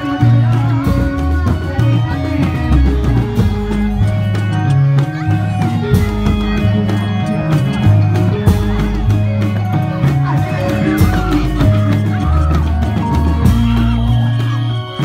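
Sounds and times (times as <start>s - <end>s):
deep bass line: 0.0s - 15.0s
drum strikes: 0.0s - 15.0s
melody: 0.0s - 15.0s.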